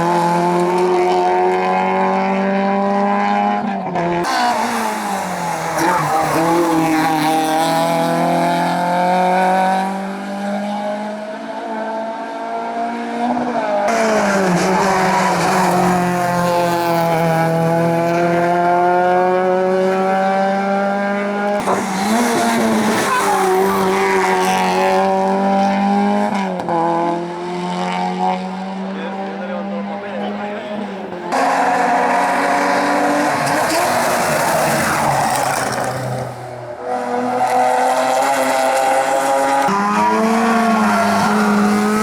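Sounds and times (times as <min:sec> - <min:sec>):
race car engine at high revs: 0:00.0 - 0:42.0.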